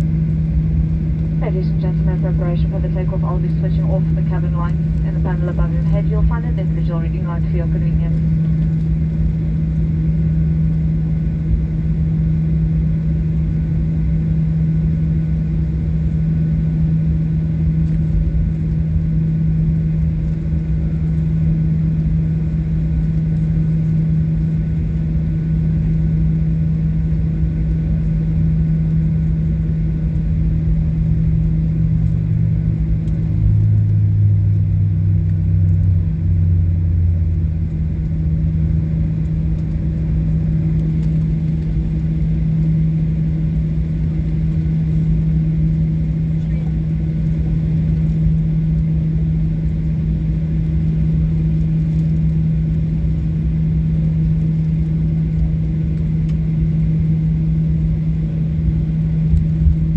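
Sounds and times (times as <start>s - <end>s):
airplane cabin engine hum: 0.0s - 59.9s.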